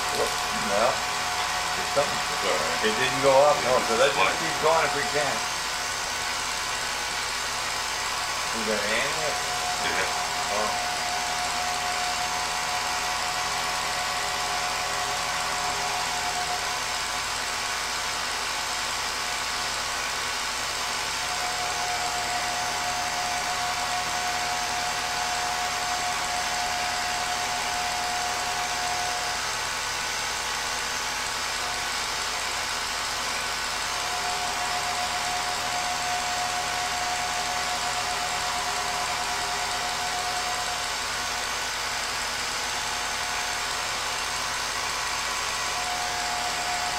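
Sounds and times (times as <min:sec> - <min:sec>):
film projector whirring: 0:00.0 - 0:46.9
high steady hum: 0:00.0 - 0:46.9.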